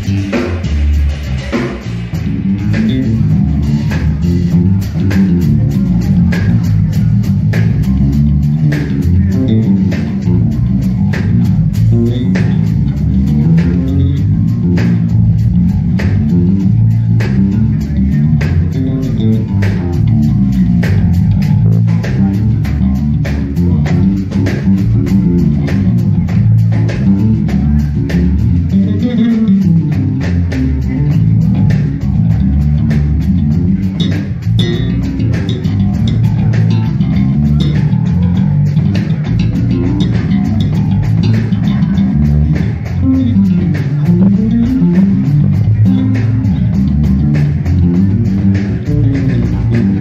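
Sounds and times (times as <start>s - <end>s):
electric bass guitar: 0.0s - 50.0s
steady clicking beat: 0.0s - 50.0s.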